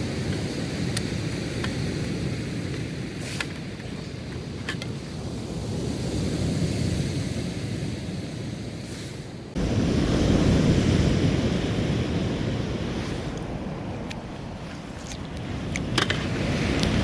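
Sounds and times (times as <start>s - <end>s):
surf washing on a beach: 0.0s - 17.0s
wind rumbling on microphone: 0.0s - 17.0s.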